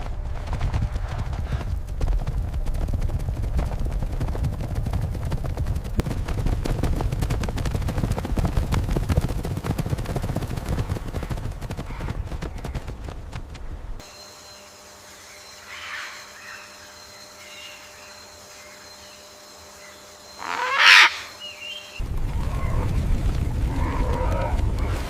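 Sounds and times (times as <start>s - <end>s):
hooves pounding on hard ground: 0.0s - 14.1s, 16.0s - 25.0s.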